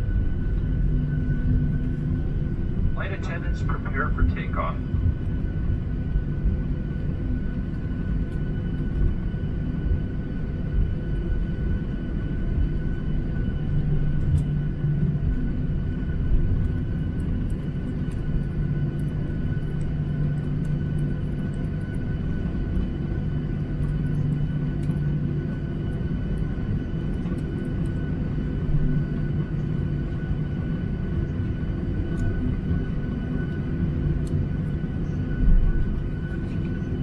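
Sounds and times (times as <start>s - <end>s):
jet engines humming from cabin: 0.0s - 37.0s.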